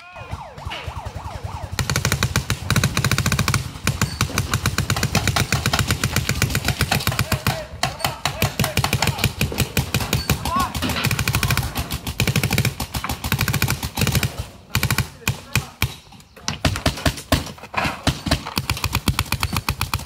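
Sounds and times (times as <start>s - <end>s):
paintball markers firing rapidly: 1.7s - 20.0s.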